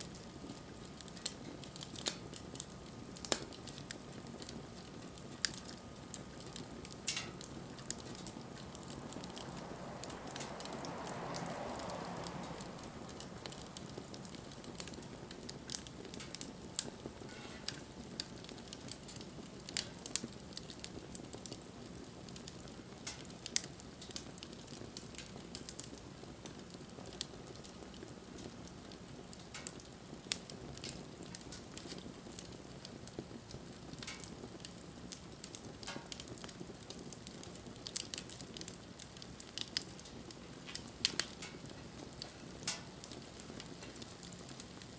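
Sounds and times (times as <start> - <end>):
sharp pops of burning wood: 0.0 - 44.9
wood fire crackling: 0.0 - 44.9.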